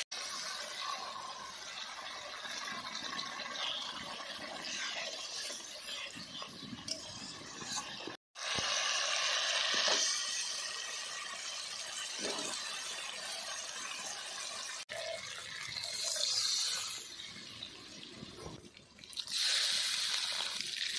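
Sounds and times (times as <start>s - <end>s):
water sizzling in hot oil: 0.0s - 20.9s.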